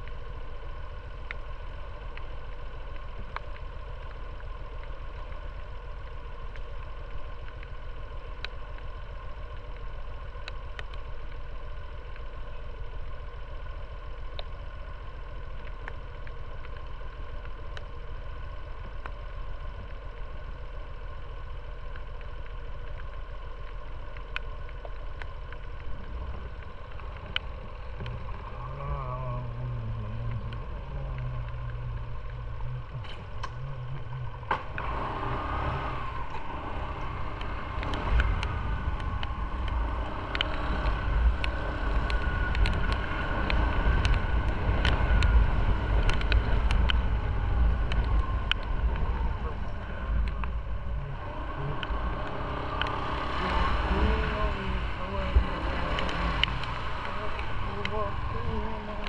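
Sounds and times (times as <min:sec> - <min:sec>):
scooter engine idling and pulling away: 0:00.0 - 0:59.0
sharp ticks: 0:00.0 - 0:59.0.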